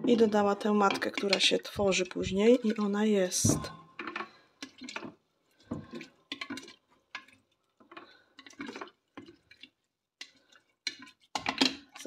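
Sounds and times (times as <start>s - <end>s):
liquid sloshing: 0.0s - 12.0s.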